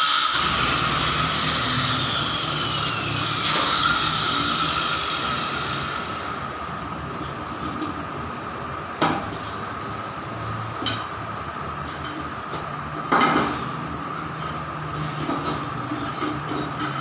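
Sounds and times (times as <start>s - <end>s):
mechanical hum with whine: 0.0s - 17.0s.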